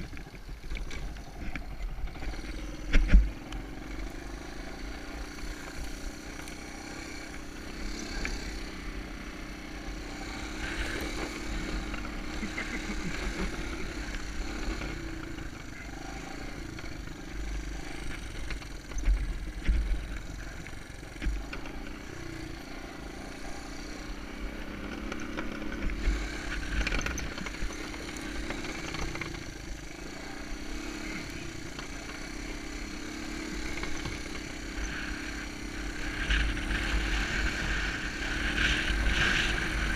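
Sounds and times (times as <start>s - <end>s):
single-cylinder engine running: 0.0s - 39.9s.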